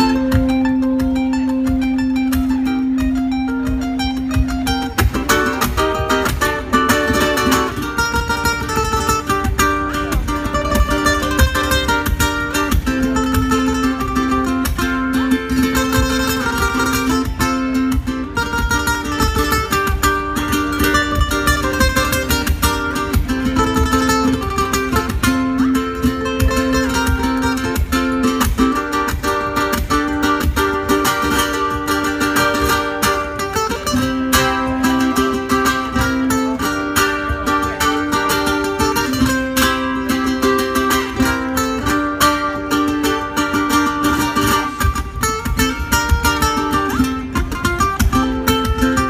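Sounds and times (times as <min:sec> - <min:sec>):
ukuleles playing: 0:00.0 - 0:49.0.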